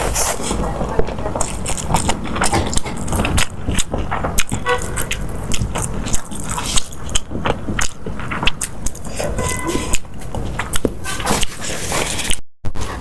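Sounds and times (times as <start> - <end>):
crisp clicks and crackles: 0.0 - 13.0
person biting and chewing: 1.4 - 13.0.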